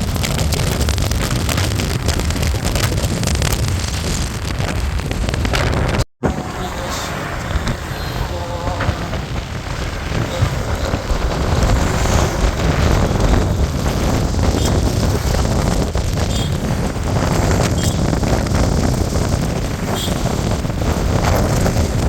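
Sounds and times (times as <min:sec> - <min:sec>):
motorcycle running: 0:00.0 - 0:22.0
road noise: 0:00.0 - 0:22.0
wind buffeting microphone: 0:00.0 - 0:22.0.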